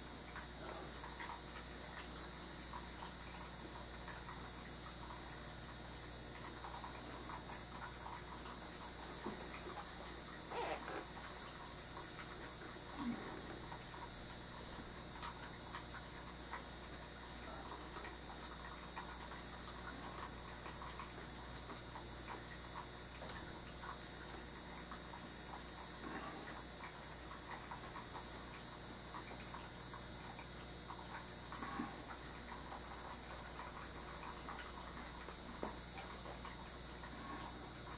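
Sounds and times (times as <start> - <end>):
low room hum and hiss: 0.0 - 37.9.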